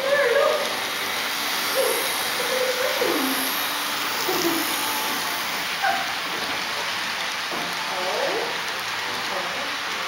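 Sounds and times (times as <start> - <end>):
model train rolling on track: 0.0 - 10.0.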